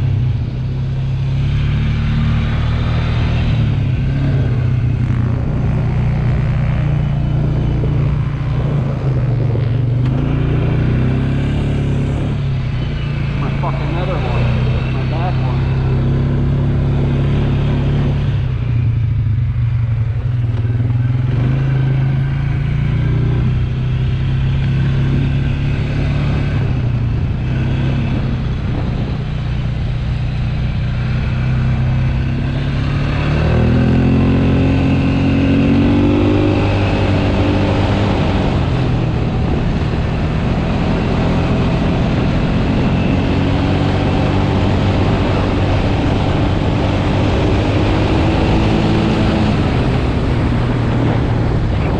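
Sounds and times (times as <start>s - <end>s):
atv engine humming: 0.0s - 51.9s.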